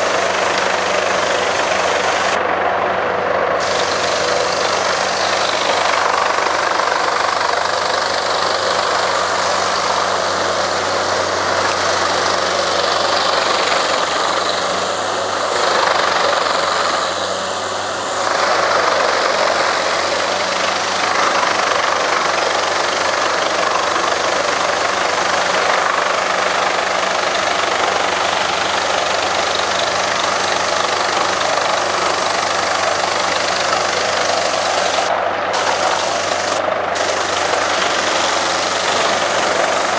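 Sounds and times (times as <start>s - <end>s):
wood chipper engine drone: 0.0s - 39.9s
wood chipper grinding logs: 0.0s - 39.9s.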